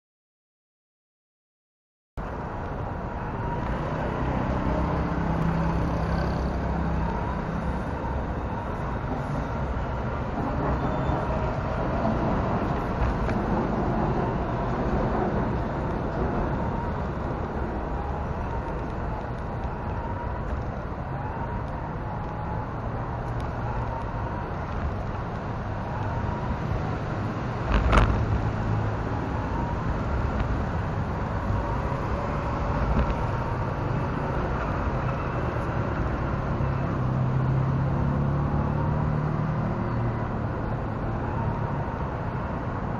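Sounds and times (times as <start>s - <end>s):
street traffic: 2.2s - 42.9s.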